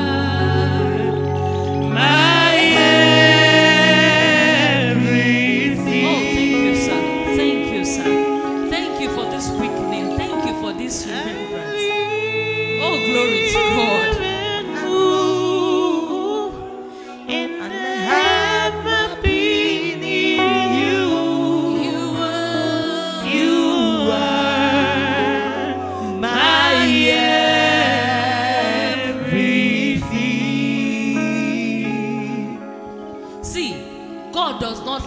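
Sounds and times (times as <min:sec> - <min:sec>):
gospel singing voices: 0:00.0 - 0:35.0
keyboard bass notes: 0:00.0 - 0:35.0.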